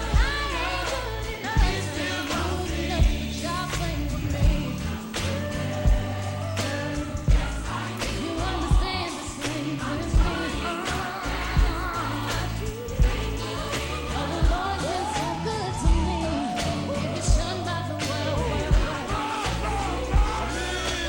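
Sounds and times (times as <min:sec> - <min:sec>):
gospel singing voice: 0:00.0 - 0:21.0
heavy beat with low drum hits: 0:00.0 - 0:21.0.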